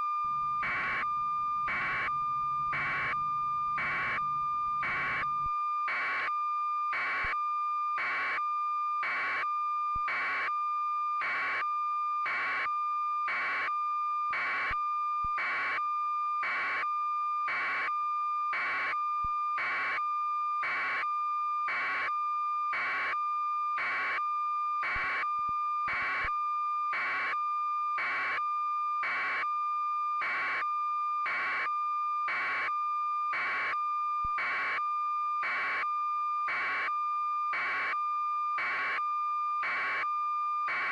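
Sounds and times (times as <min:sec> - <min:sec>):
electronic beep tone with pulsing buzz: 0:00.0 - 0:40.9.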